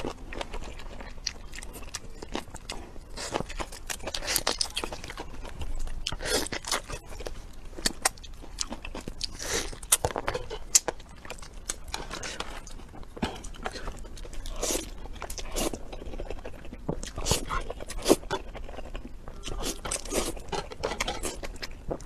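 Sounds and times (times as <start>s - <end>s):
person crunching and chewing: 0.0s - 22.0s.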